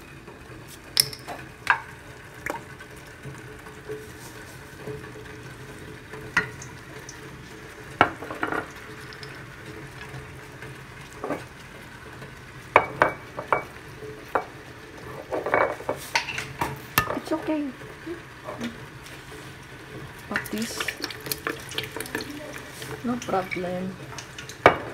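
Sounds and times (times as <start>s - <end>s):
sauce sizzling: 0.0s - 24.9s.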